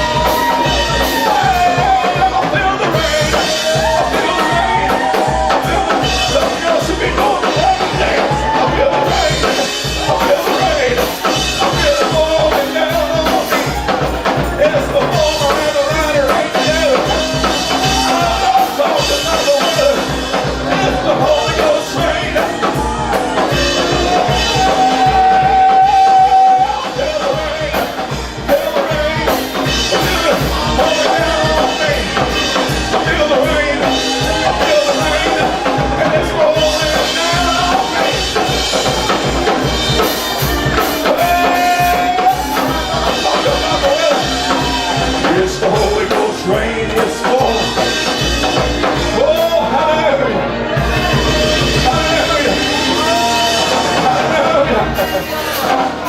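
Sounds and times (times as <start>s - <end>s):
church praise band: 0.0s - 56.0s
drum kit beat: 0.0s - 56.0s
lead melody: 0.0s - 56.0s.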